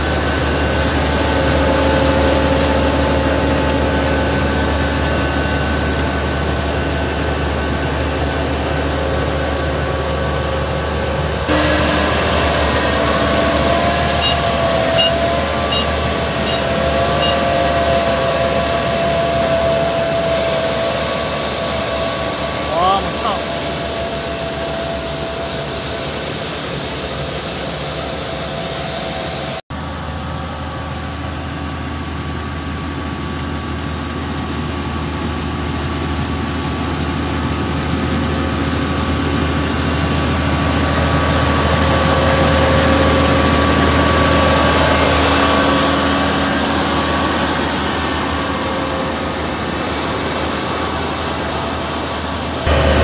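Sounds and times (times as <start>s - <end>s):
machine whining tones: 0.0s - 29.6s, 40.0s - 53.0s
combine harvester diesel drone: 0.0s - 53.0s.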